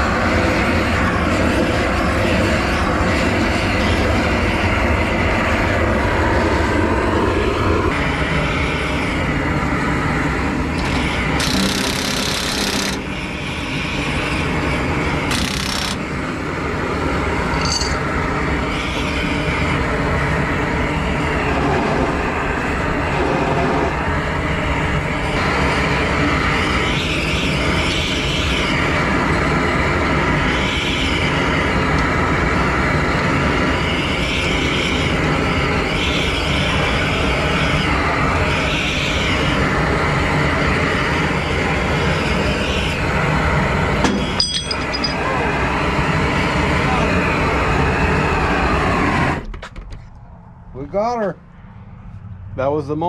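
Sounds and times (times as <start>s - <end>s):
torch roaring: 0.0s - 49.5s.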